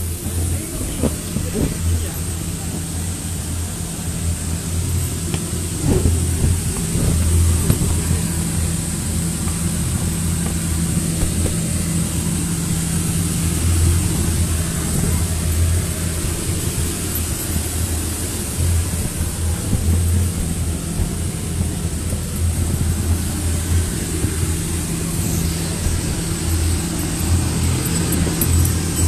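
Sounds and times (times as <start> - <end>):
electric air blower running: 0.0 - 29.0.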